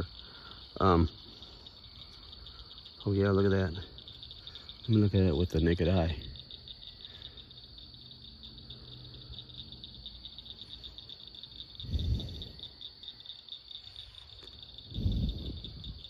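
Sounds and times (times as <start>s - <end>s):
chorus of night-calling animals: 0.0s - 16.0s.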